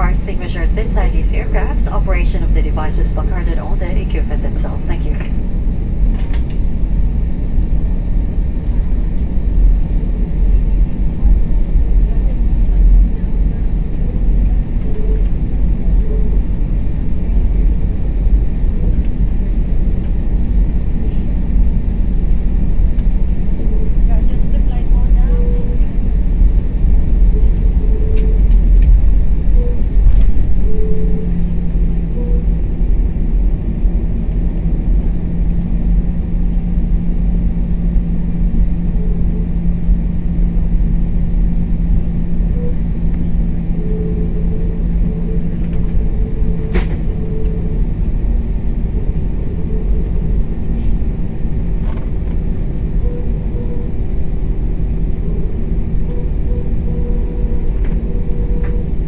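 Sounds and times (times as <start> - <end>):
airliner engines droning: 0.0 - 59.0.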